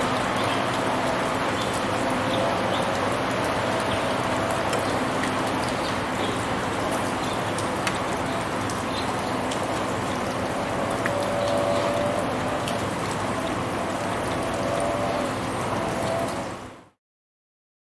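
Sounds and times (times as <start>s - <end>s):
small drip ticks: 0.0s - 16.6s
steady rain on street: 0.0s - 17.0s.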